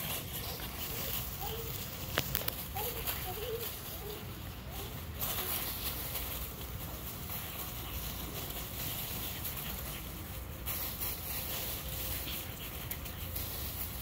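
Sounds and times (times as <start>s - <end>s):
dry leaves rustling and crackling: 0.0s - 14.0s
footsteps in leaves: 0.0s - 14.0s.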